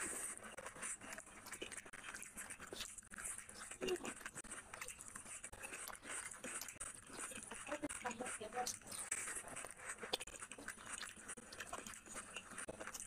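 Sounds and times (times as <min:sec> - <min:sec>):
fingers working rice on plate: 0:00.0 - 0:13.0
person chewing wetly: 0:00.0 - 0:13.0.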